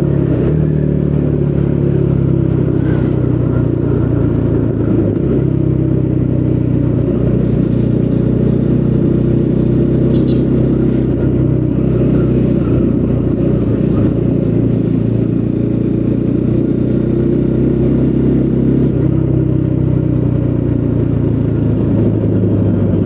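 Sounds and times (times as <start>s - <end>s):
motorcycle engine riding: 0.0s - 23.0s.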